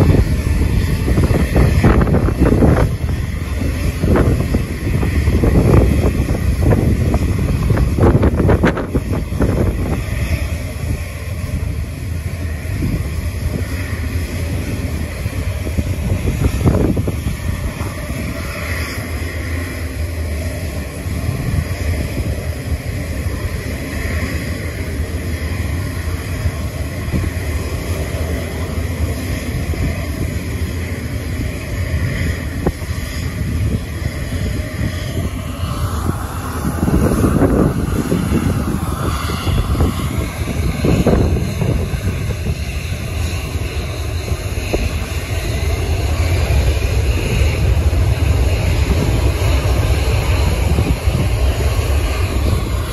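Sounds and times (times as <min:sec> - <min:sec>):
jet engines running: 0:00.0 - 0:52.9
wind rumble on microphone: 0:00.0 - 0:52.9.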